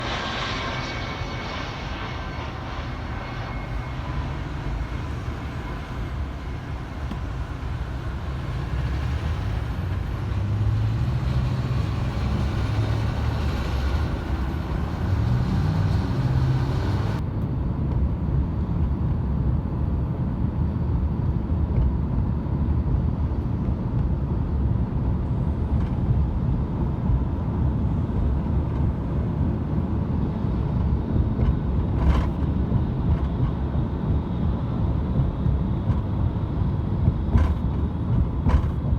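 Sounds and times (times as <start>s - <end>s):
jet engine high whine: 0.0s - 38.9s
jet engine low rumble: 0.0s - 38.9s.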